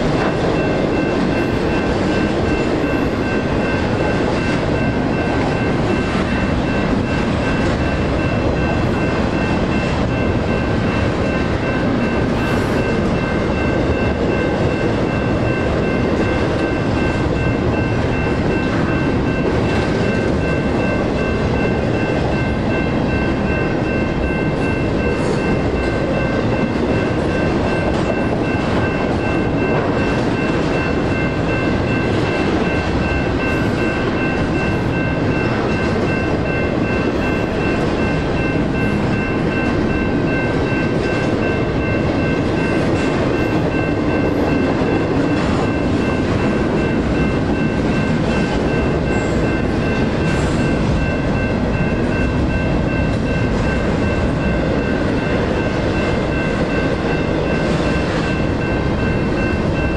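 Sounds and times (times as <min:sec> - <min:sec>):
crossing bells ringing: 0:00.0 - 0:59.9
train wheels rumbling and clattering: 0:00.0 - 0:59.9.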